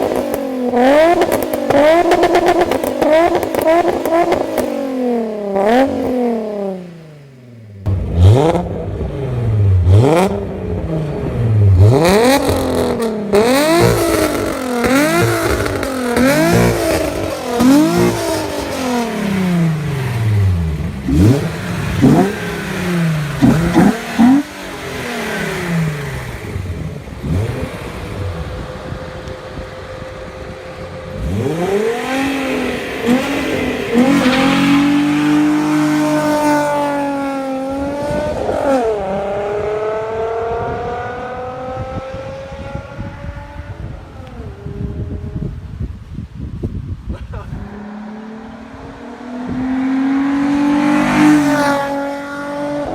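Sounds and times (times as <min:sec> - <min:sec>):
car engine revving: 0:00.0 - 0:45.6, 0:47.6 - 0:52.9.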